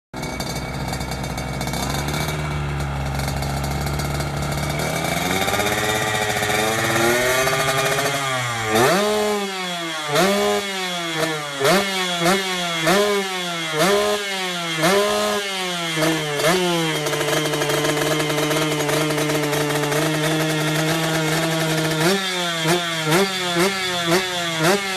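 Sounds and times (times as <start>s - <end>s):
motorcycle engine revving: 0.2s - 24.9s.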